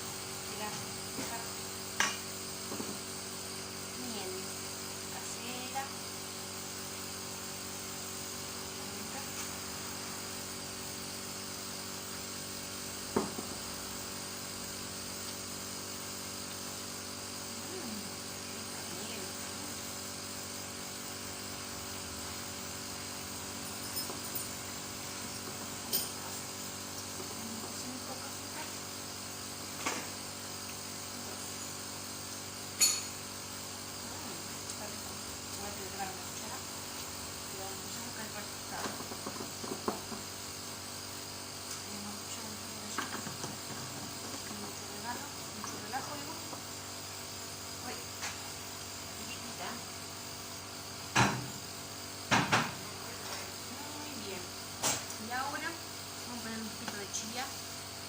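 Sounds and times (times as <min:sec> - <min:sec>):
small electric motor humming: 0:00.0 - 0:58.0.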